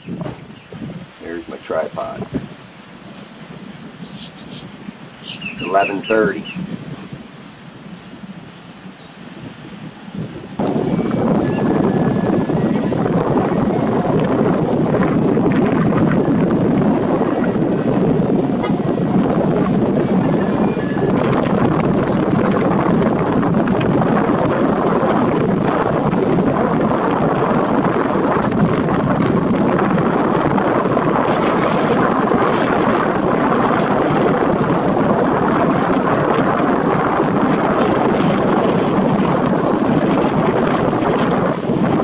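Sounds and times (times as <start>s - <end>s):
wind blowing over microphone: 0.0s - 42.0s.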